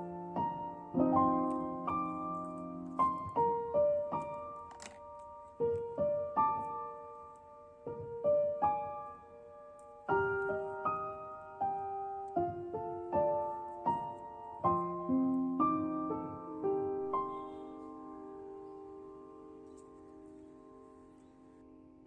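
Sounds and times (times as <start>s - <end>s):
slow soft piano music: 0.0s - 22.0s.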